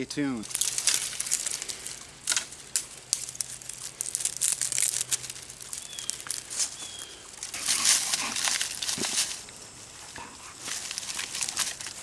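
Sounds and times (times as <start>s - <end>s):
dry twigs and leaves crackling: 0.0s - 12.0s.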